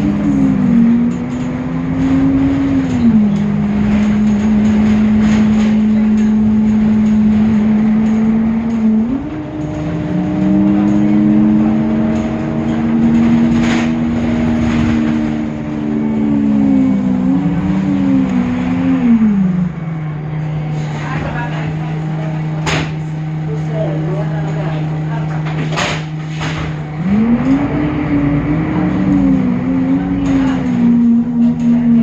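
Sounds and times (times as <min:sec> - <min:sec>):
bus diesel engine humming: 0:00.0 - 0:32.0.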